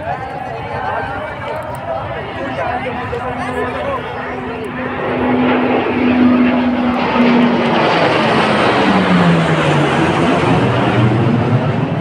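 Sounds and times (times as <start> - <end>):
jet aircraft roaring overhead: 0.0 - 12.0.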